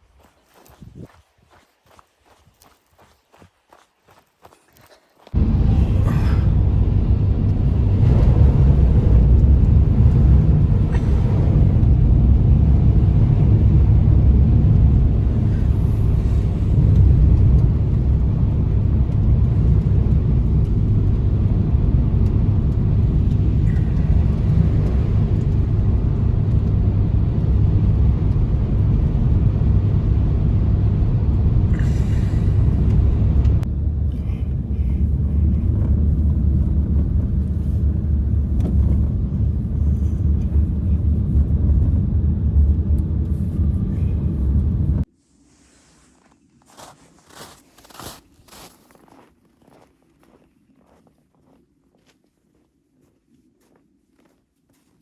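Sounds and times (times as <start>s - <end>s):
blizzard wind rumbling: 0.0s - 1.6s, 5.3s - 50.4s.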